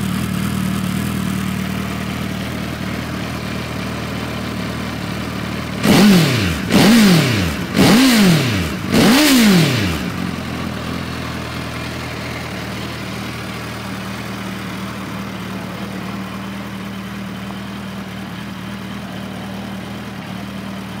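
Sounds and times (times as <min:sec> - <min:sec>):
motorcycle engine idling: 0:00.0 - 0:21.0
motorcycle engine revving: 0:00.0 - 0:21.0.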